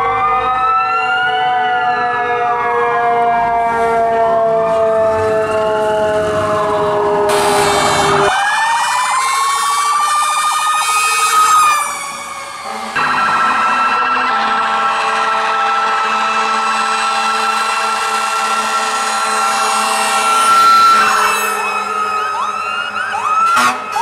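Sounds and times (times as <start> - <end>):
fire engine siren winding: 0.0 - 24.0
steady high siren: 0.0 - 24.0.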